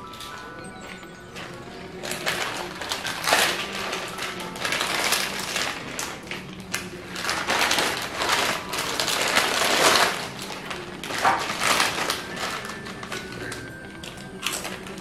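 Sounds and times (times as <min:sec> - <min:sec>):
chip packets crinkling: 0:00.0 - 0:15.0
chips shifting inside packet: 0:01.4 - 0:15.0.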